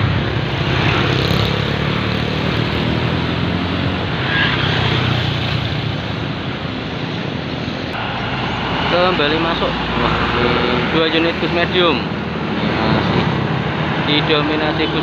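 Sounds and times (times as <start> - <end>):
bus diesel engine drone: 0.0 - 15.0
tyre and road noise: 0.0 - 15.0.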